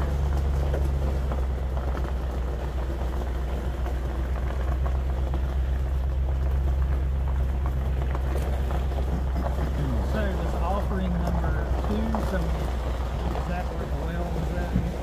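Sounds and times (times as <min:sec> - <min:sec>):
truck engine and road rumble: 0:00.0 - 0:15.0
tyres crackling over gravel: 0:00.0 - 0:15.0.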